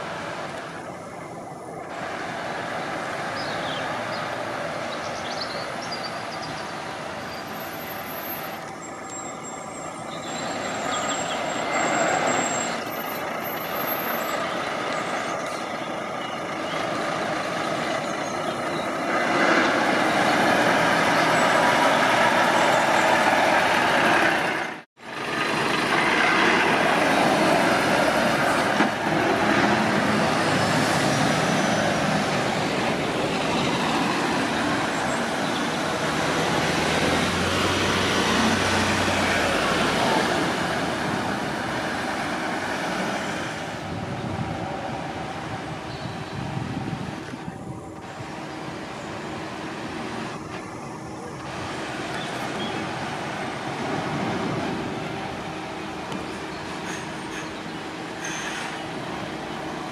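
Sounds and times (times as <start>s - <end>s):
truck diesel engine driving past: 6.2s - 59.9s.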